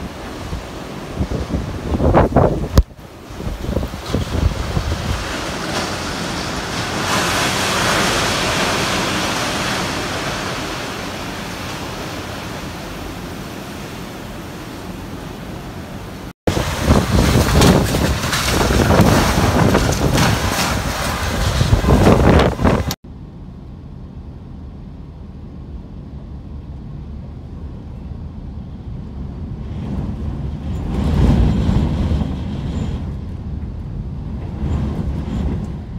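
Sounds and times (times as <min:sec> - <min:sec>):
strong wind rushing: 0:00.0 - 0:23.0, 0:24.6 - 0:35.9
wind buffeting microphone: 0:00.0 - 0:23.0, 0:24.6 - 0:35.9.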